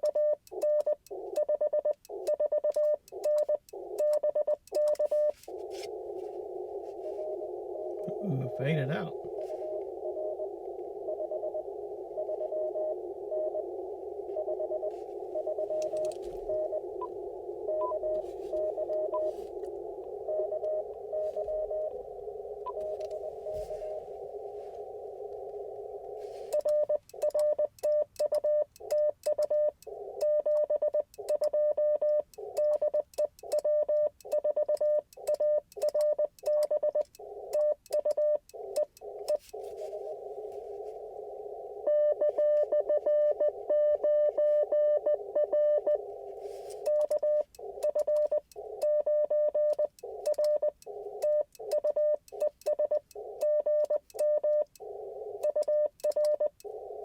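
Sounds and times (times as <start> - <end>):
morse code beeping tone: 0.0 - 24.3, 26.5 - 40.9, 41.8 - 57.0
radio receiver hiss: 2.9 - 27.4, 28.2 - 31.3, 35.2 - 57.0.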